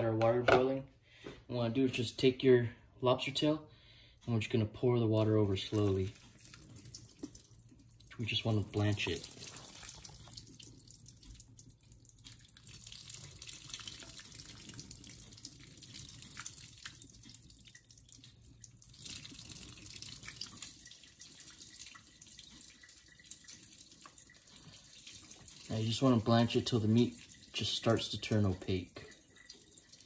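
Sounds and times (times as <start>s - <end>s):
water pouring into colander: 5.2s - 30.0s
water dripping into sink: 5.6s - 30.0s.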